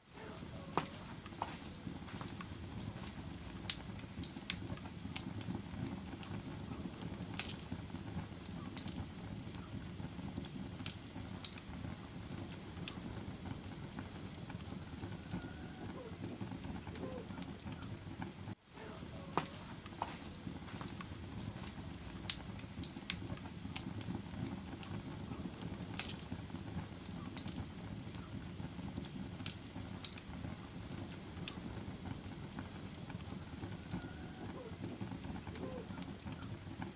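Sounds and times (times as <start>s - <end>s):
fire crackling: 0.0s - 36.9s
fire pops and snaps: 0.6s - 18.6s, 19.2s - 36.9s.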